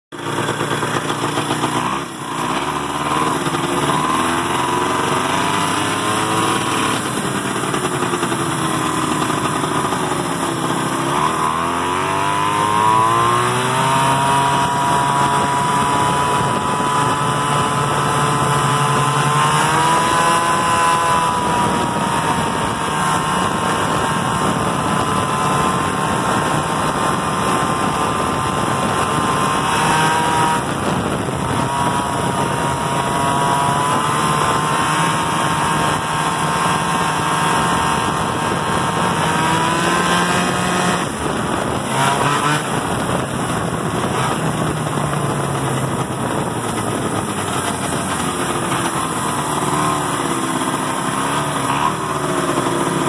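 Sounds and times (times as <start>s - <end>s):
snowmobile engine revving: 0.1s - 53.0s.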